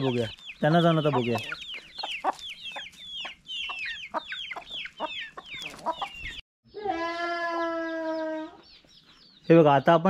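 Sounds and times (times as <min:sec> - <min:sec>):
chickens clucking: 0:00.0 - 0:06.4, 0:07.7 - 0:10.0
chicks peeping: 0:00.0 - 0:06.4, 0:07.9 - 0:10.0.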